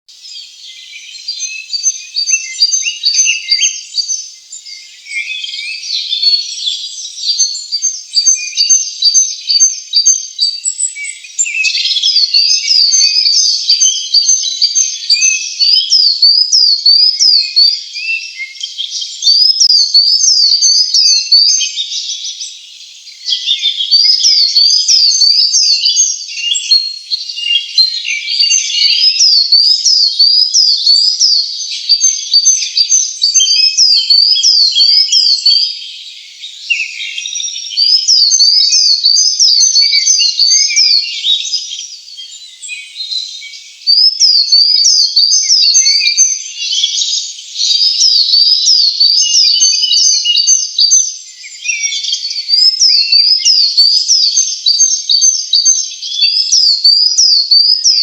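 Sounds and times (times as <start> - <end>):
small birds chirping: 0.1 - 58.0
whistled bird calls: 0.1 - 58.0.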